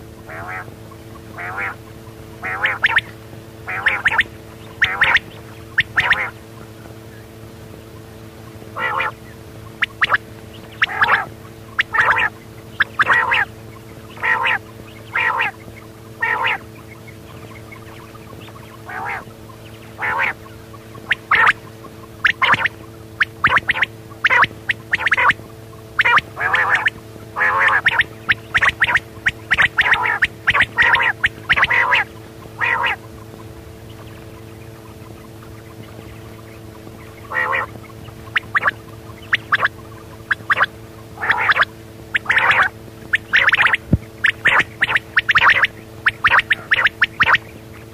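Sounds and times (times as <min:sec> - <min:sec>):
quail calling: 0:00.0 - 0:47.9
steady low hum: 0:00.0 - 0:47.9.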